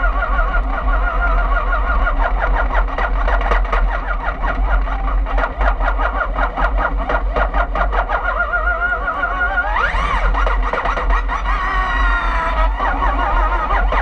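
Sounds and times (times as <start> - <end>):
electric drivetrain whining: 0.0 - 14.0.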